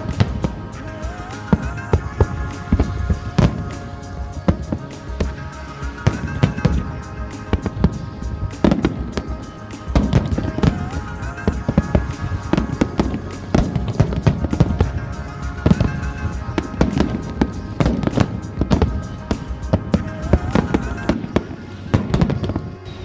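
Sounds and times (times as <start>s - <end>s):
fireworks bangs and crackles: 0.0s - 23.0s
music playing: 0.0s - 23.0s.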